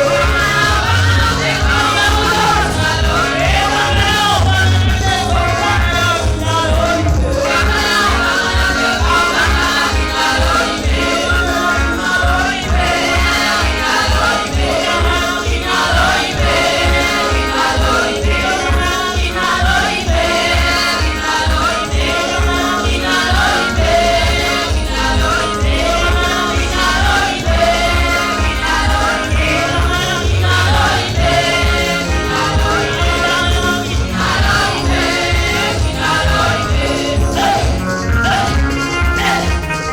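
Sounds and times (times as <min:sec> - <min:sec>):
band with pulsing bass beat: 0:00.0 - 0:39.9
group of voices singing: 0:00.0 - 0:39.9.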